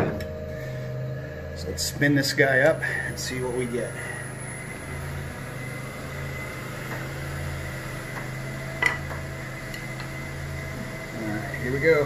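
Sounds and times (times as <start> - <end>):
wood lathe humming and whining: 0.0 - 12.0.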